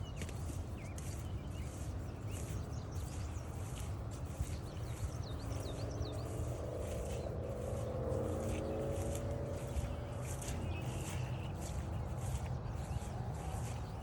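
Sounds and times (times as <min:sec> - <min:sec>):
faint engine hum: 0:00.0 - 0:14.0
footsteps on dirt trail: 0:00.0 - 0:14.0
small birds chirping: 0:00.0 - 0:14.0.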